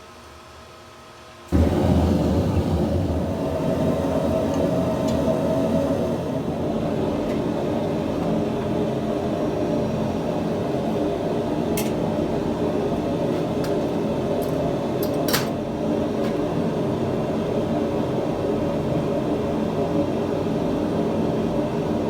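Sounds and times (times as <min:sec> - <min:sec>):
machine whirring with hum: 0:01.2 - 0:22.0.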